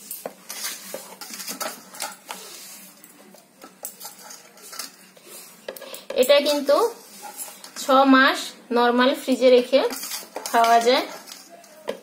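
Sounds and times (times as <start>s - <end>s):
spoon scraping steel bowl: 0.0s - 2.9s, 3.6s - 8.0s, 9.3s - 11.8s.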